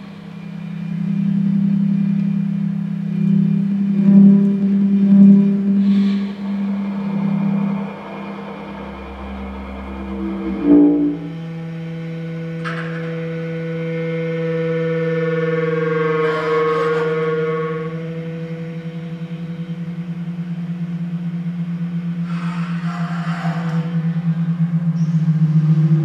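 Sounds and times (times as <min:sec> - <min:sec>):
bass clarinet low tone: 0:00.0 - 0:26.0
electronic sustained higher tone: 0:00.0 - 0:26.0.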